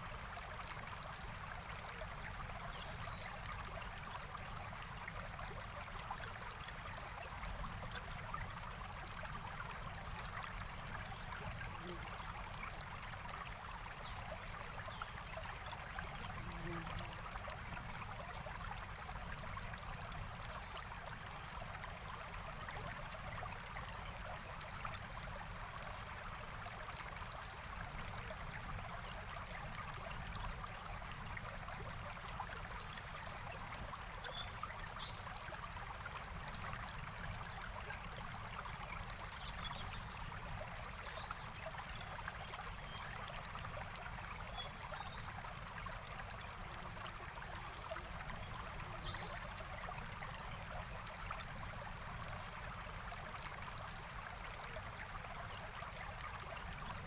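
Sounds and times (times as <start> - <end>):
forest stream running: 0.0 - 57.0.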